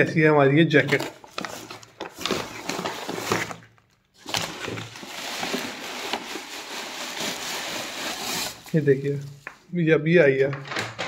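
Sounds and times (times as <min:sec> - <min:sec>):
paper bag rustling and crinkling: 0:00.8 - 0:09.7.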